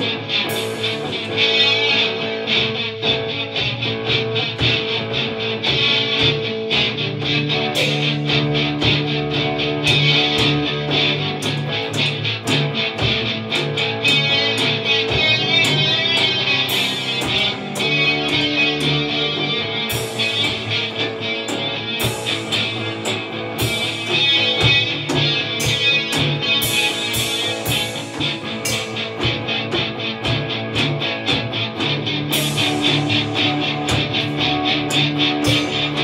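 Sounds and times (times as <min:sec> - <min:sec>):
electric guitars playing rock: 0:00.0 - 0:36.0
steady drum beat: 0:00.0 - 0:36.0.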